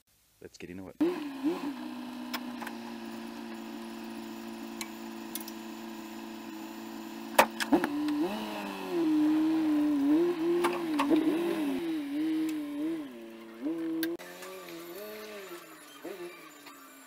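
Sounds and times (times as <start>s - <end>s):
vehicle engine running: 1.0s - 17.0s.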